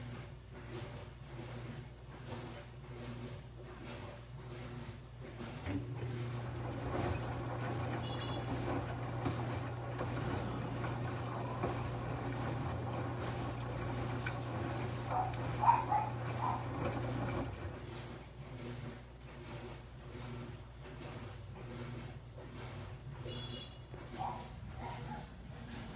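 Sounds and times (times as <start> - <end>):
washing machine humming: 0.0 - 25.9.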